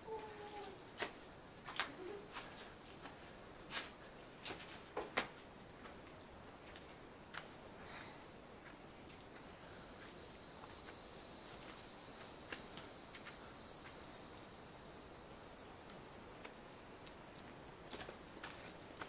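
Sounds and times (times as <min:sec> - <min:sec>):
insects droning: 0:00.0 - 0:19.0
footsteps on dirt path: 0:00.2 - 0:07.5, 0:08.6 - 0:14.0, 0:15.8 - 0:19.0.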